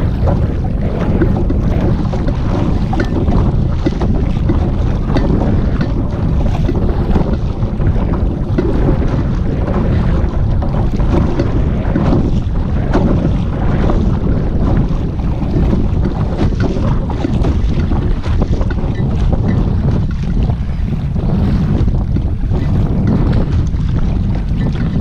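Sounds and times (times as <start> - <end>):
paddle dipping in water: 0.0 - 25.0
water splashing against kayak: 0.0 - 25.0
wind buffeting microphone: 0.0 - 25.0.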